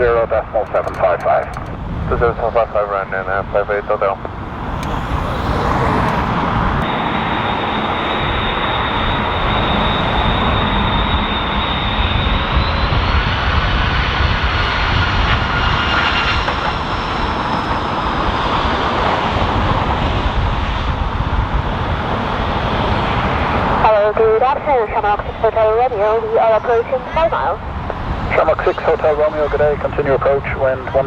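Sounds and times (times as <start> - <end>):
jet engines whining: 0.0 - 31.0.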